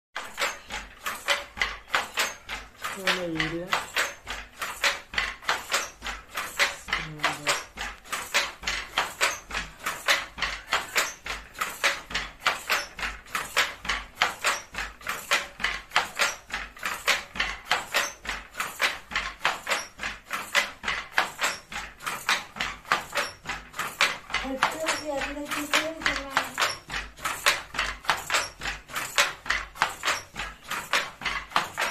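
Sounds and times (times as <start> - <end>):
weaving loom clacking: 0.2 - 31.9.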